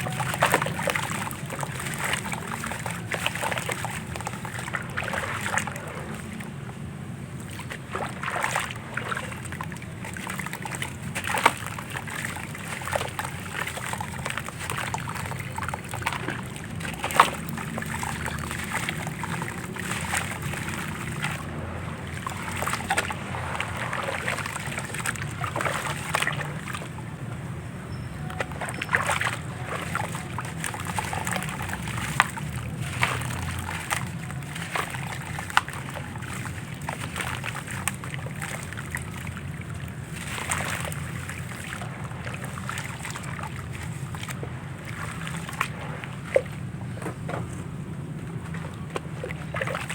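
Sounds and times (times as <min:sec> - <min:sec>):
water sloshing and splashing: 0:00.0 - 0:49.9.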